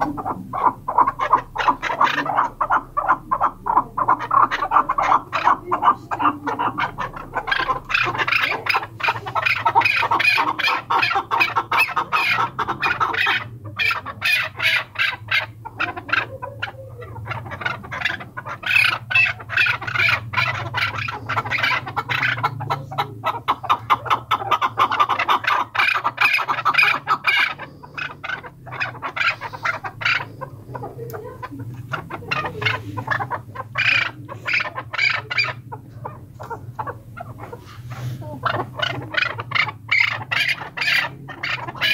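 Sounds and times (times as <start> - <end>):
partridge clucking calls: 0.0 - 41.9.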